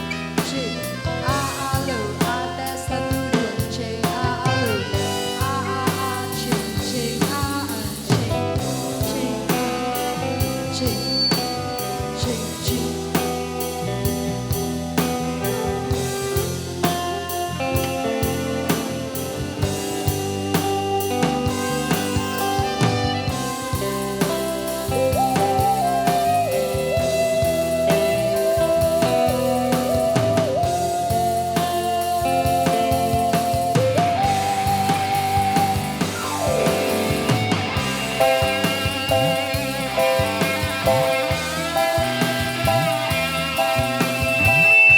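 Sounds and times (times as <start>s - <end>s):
recorded song with drum beat: 0.0s - 44.9s.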